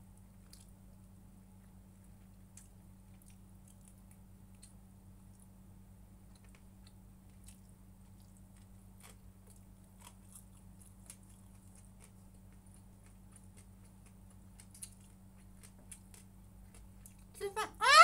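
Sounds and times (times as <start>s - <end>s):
low electrical hum: 0.0s - 18.0s
faint chewing: 0.1s - 5.6s, 6.2s - 17.4s.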